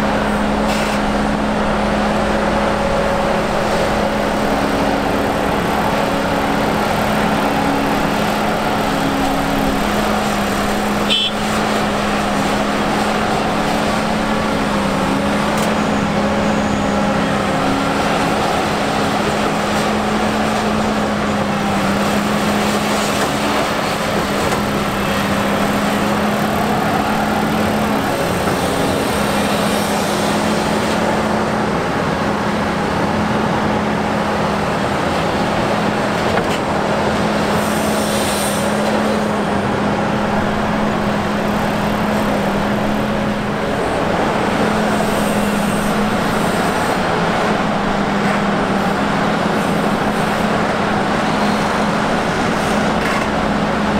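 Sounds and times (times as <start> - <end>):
excavator diesel engine droning: 0.0 - 53.9.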